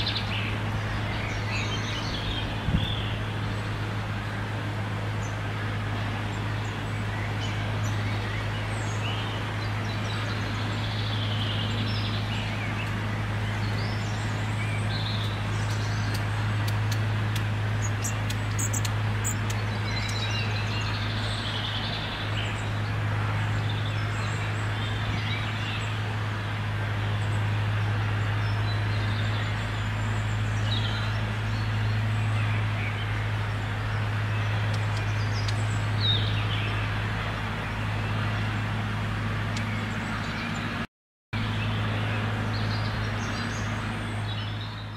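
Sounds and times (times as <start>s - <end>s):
small birds chirping: 0.0s - 4.4s, 5.0s - 40.8s, 41.4s - 44.9s.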